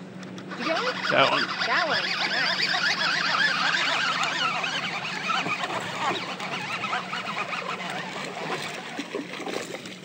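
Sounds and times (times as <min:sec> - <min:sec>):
steady low hum: 0:00.0 - 0:10.0
birds calling: 0:00.3 - 0:09.4.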